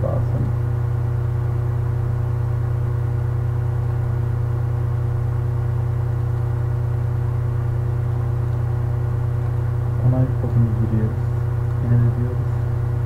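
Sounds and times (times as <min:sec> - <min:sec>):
loud low hum with whir: 0:00.0 - 0:13.0.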